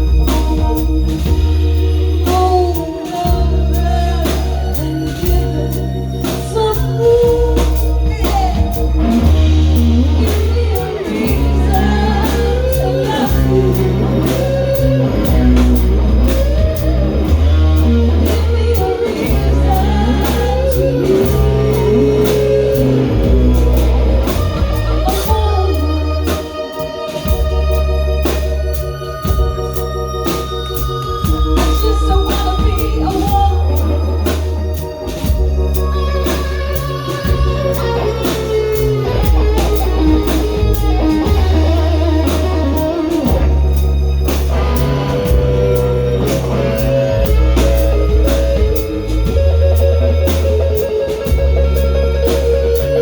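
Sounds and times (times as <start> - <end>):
drums steady beat: 0.0 - 53.0
loud repeating bass line: 0.0 - 53.0
person singing: 0.0 - 53.0.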